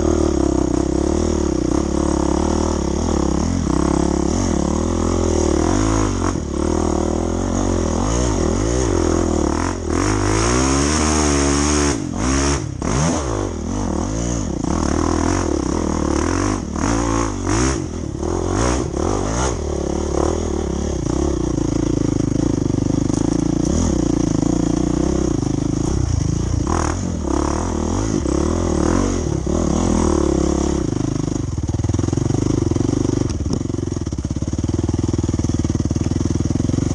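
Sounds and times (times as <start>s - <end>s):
dirt bike engine revving: 0.0s - 33.3s.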